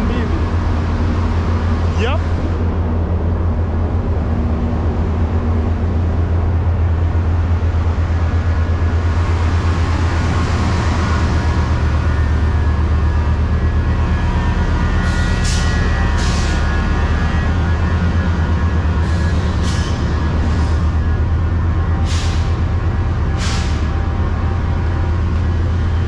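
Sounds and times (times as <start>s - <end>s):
train rumble inside coach: 0.0s - 26.0s.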